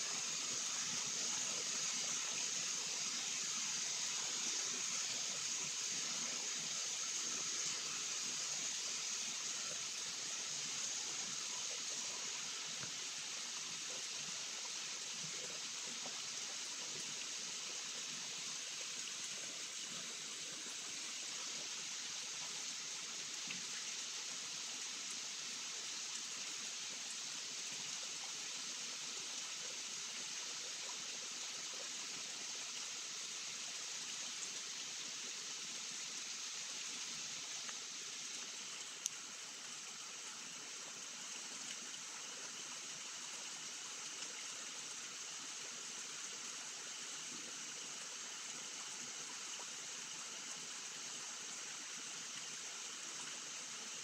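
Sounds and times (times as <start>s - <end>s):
steady rain: 0.0s - 31.0s, 31.6s - 54.0s.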